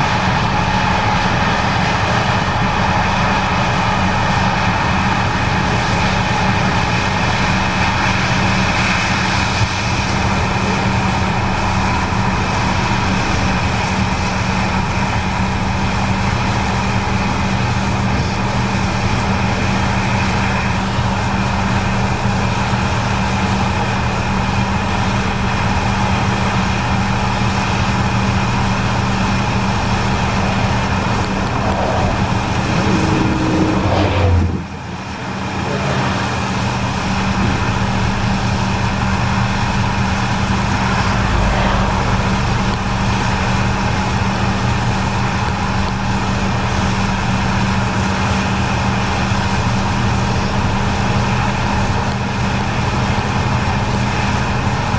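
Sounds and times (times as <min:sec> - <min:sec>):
combine harvester running: 0:00.0 - 0:54.9.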